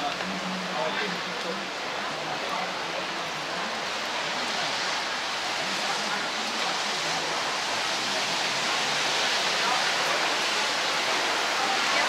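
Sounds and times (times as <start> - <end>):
steady rain hiss: 0.1 - 12.0.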